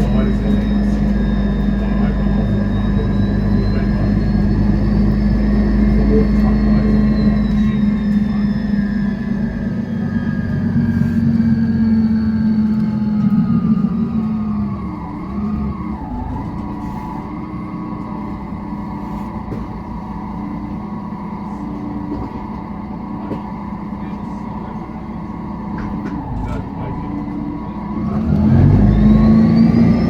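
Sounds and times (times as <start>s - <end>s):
bus diesel engine humming: 0.0s - 30.0s.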